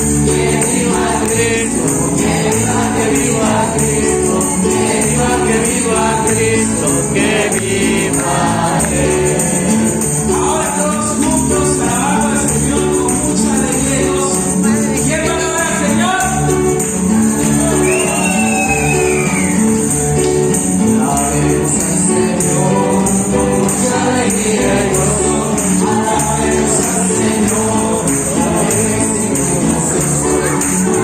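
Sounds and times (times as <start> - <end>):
tambourine shaking: 0.0 - 31.0
voices singing: 0.0 - 31.0.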